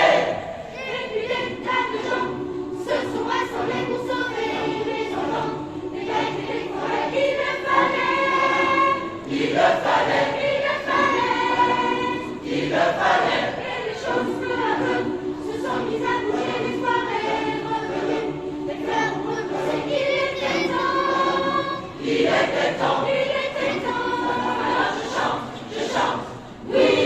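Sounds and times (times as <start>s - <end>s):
choir singing a cappella: 0.0s - 27.0s.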